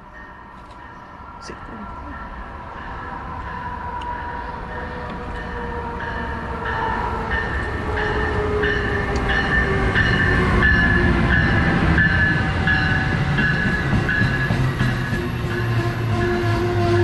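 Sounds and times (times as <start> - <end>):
train running on tracks: 0.0 - 17.0.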